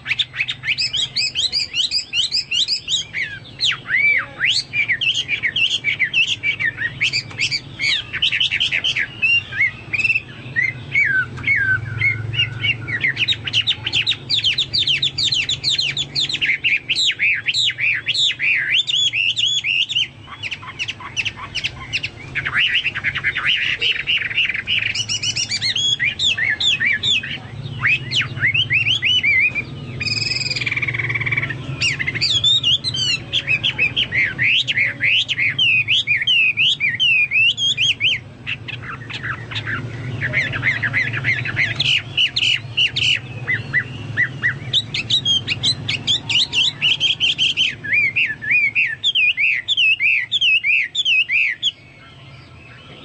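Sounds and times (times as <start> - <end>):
songbird singing trills: 0.0 - 53.0.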